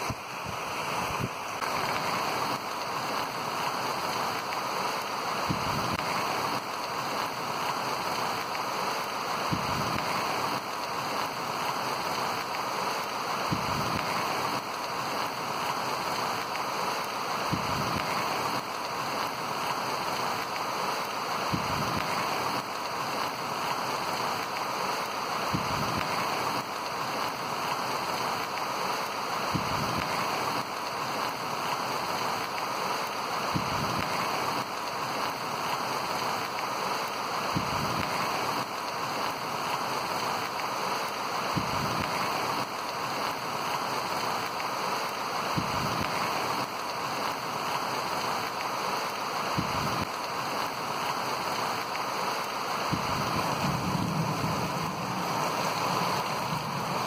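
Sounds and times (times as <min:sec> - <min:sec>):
heavy rain on wet ground: 0:00.0 - 0:57.0.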